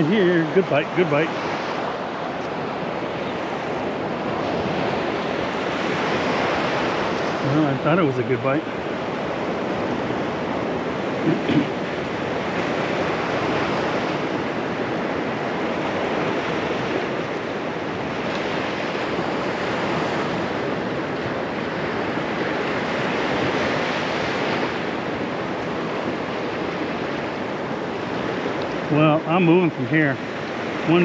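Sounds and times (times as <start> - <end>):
surf breaking on a sand beach: 0.0 - 31.0.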